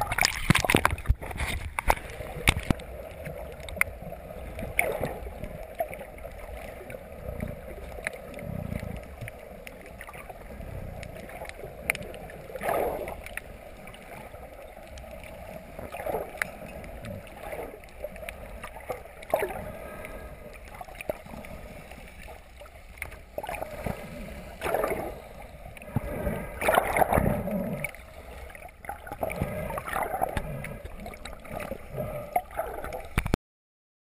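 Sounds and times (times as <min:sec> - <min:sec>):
water rushing and gurgling: 0:00.0 - 0:33.4.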